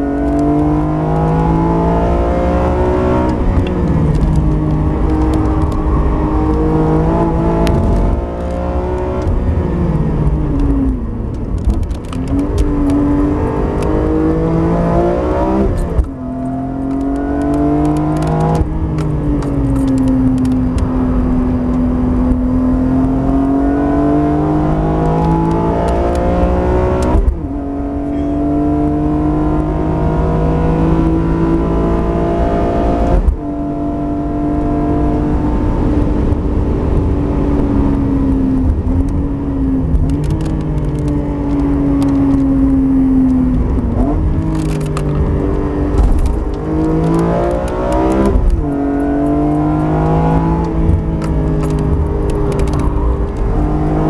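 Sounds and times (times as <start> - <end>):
gear upshifts: 0.0 - 33.9, 34.5 - 54.0
car engine accelerating: 0.0 - 54.0.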